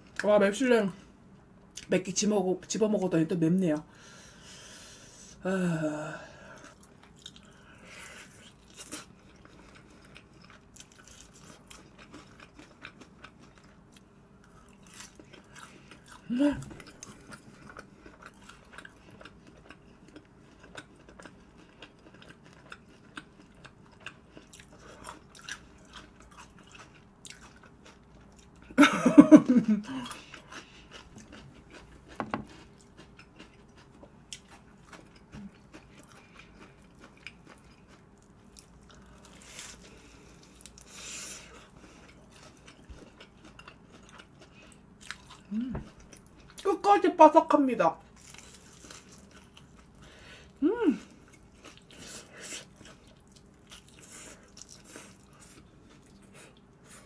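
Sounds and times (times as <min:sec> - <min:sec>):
crunchy chewing of fried chicken: 0:06.4 - 0:46.7, 0:48.0 - 0:57.0.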